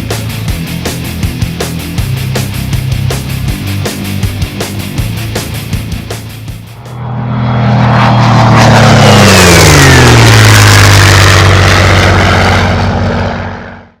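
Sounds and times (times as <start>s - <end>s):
loud engine passing by: 0.4s - 14.0s.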